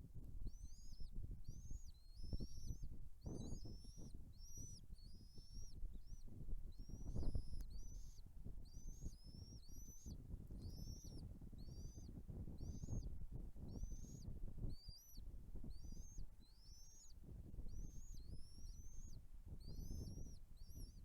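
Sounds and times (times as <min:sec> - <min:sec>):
chicks chirping: 0:00.4 - 0:13.1, 0:13.7 - 0:21.0.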